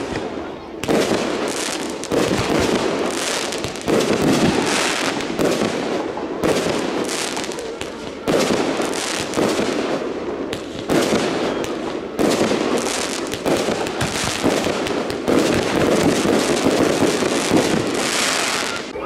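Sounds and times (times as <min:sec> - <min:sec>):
fireworks bangs: 0:00.0 - 0:19.0
fireworks crackling and pops: 0:00.0 - 0:19.0.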